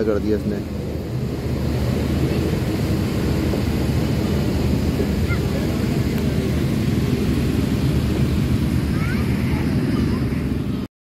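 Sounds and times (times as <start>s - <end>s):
passenger train rumbling on track: 0.0s - 10.9s.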